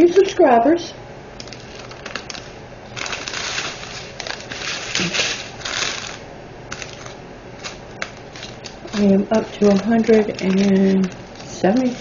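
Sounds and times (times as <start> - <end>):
small beads rattling: 1.4 - 12.0.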